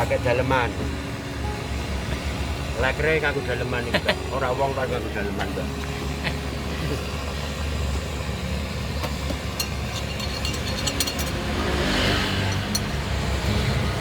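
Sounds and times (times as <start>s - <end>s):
motor traffic hum: 0.0s - 14.0s.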